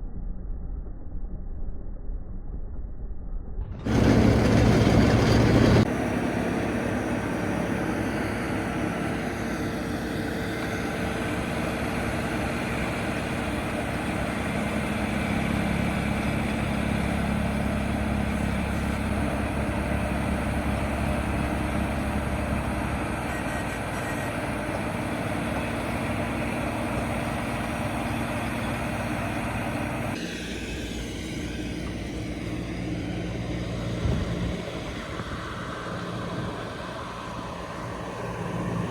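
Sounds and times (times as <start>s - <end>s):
vehicle engine running: 3.8s - 38.9s.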